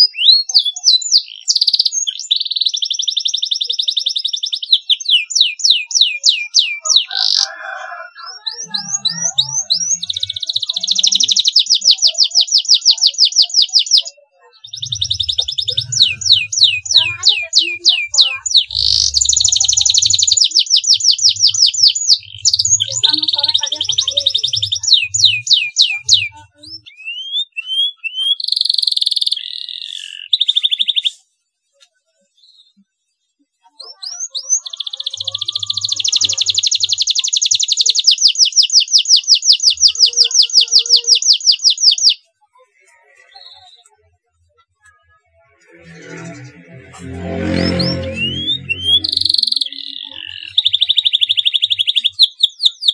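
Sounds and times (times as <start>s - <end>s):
canary singing trills: 0.0s - 31.4s, 33.6s - 52.9s.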